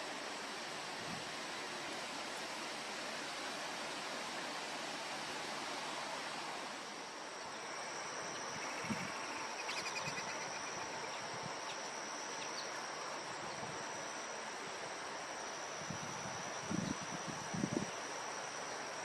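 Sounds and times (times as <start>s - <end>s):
high insect trill: 0.0s - 19.0s
steady hiss: 0.0s - 19.0s.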